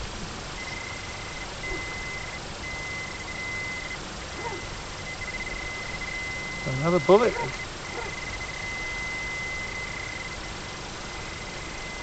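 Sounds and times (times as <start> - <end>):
metal detector high tone: 0.6 - 12.0.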